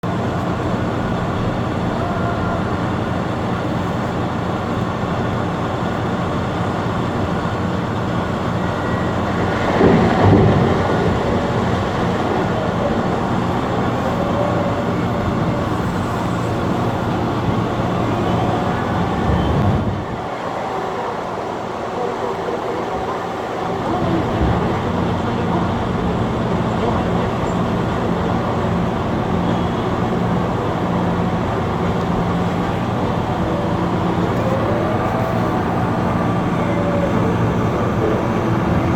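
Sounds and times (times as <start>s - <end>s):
wheel loader diesel engine: 0.0s - 38.9s.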